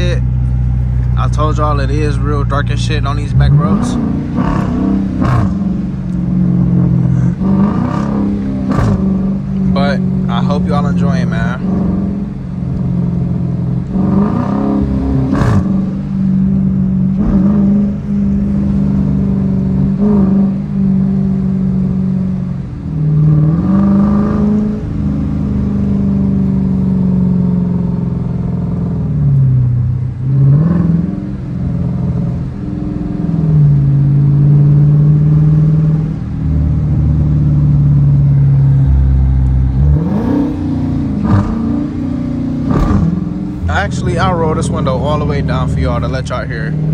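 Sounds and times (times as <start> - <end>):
car engine droning inside cabin: 0.0 - 46.9.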